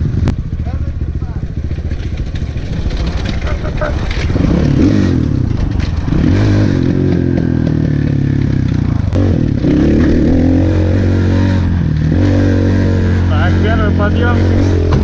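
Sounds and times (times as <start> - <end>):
dirt bike engine: 0.0 - 15.0.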